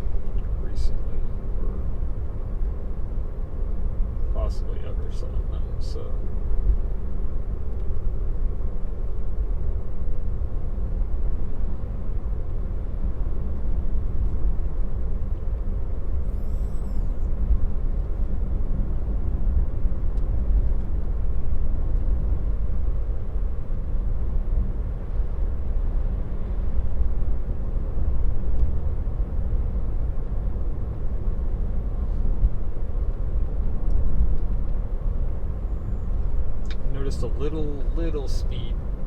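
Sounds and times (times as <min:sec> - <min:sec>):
road and tyre rumble: 0:00.0 - 0:39.0.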